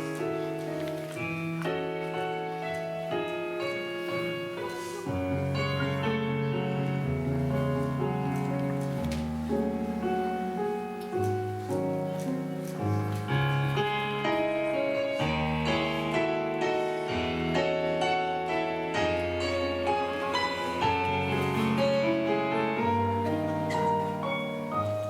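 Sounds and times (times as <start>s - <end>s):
slow piano hymn introduction: 0.0s - 25.0s.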